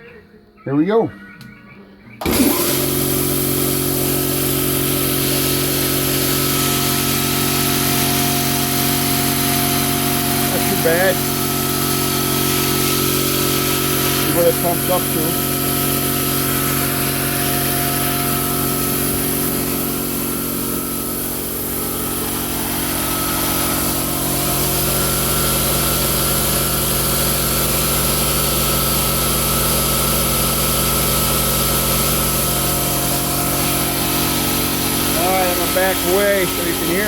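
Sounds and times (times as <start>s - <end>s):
air compressor running: 2.2s - 37.0s.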